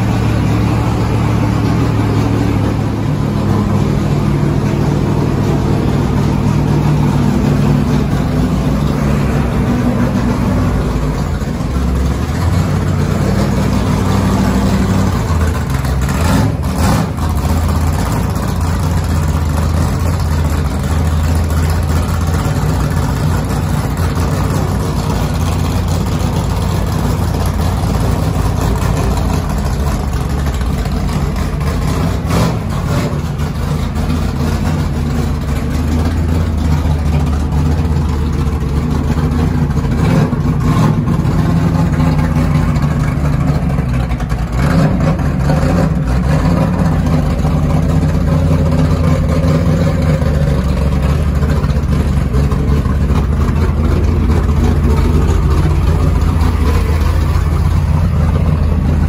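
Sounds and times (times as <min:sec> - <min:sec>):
race car engine idling: 0:00.0 - 0:59.0.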